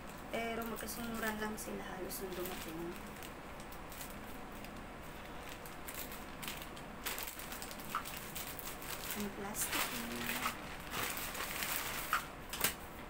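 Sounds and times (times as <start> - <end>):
plastic crinkling: 0.0 - 12.8.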